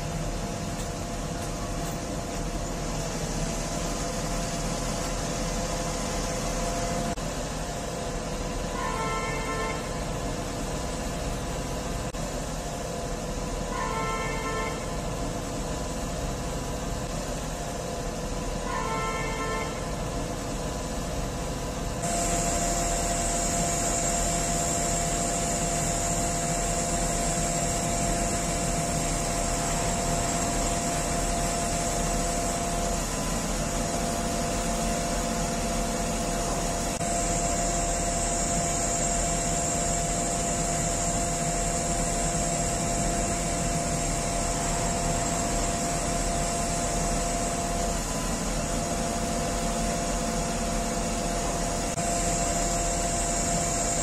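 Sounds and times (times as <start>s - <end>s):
crane engine drone with whine: 0.0s - 54.0s.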